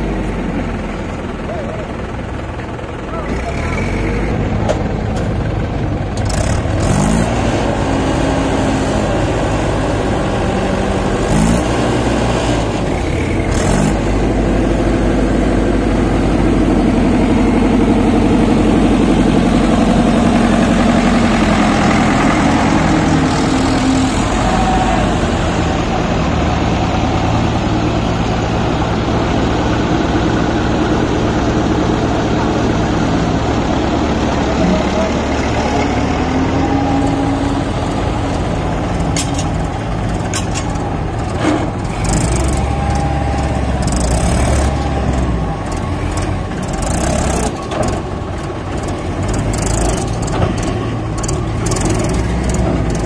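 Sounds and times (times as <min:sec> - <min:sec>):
diesel tractor engines revving: 0:00.0 - 0:53.0.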